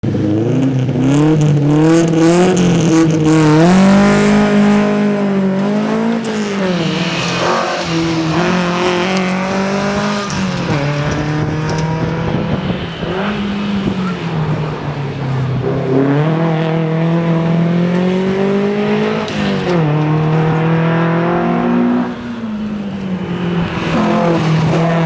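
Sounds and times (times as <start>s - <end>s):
car engine pulling hard: 0.0s - 25.0s.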